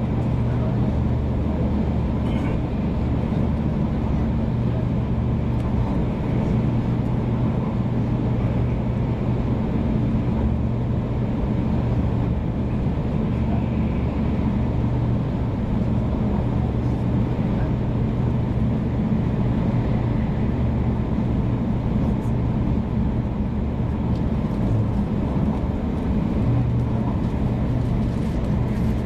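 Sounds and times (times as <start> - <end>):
constant hum: 0.0 - 29.0
train cabin rumble: 0.0 - 29.0.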